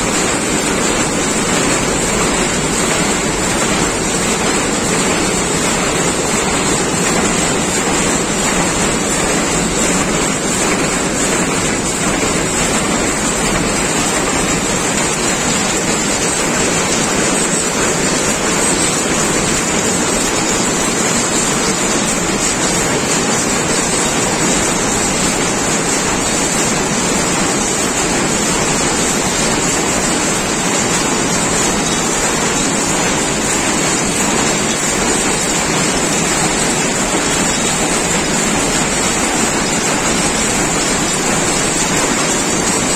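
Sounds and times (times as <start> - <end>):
power looms running: 0.0 - 42.9.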